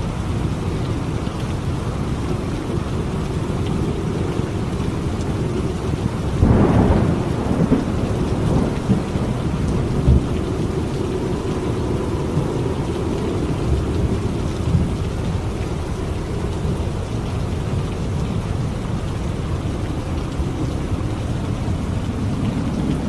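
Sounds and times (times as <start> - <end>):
heavy rain: 0.0 - 23.0
thunder rumbling: 2.3 - 23.0.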